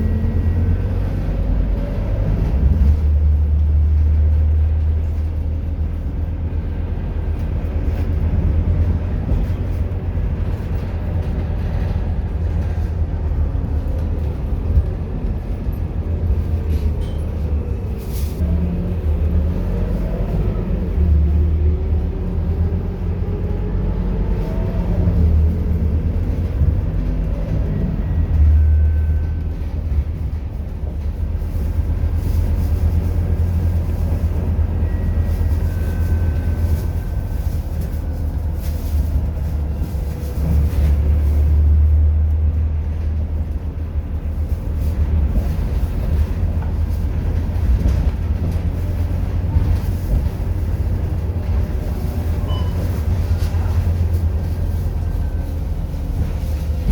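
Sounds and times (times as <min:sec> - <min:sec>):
bus diesel engine droning: 0:00.0 - 0:56.9.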